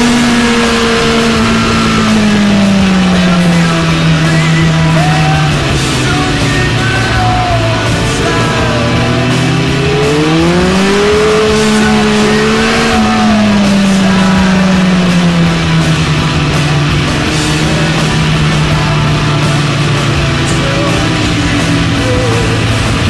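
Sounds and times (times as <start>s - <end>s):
motorcycle engine accelerating: 0.0s - 23.0s
music: 0.0s - 23.0s.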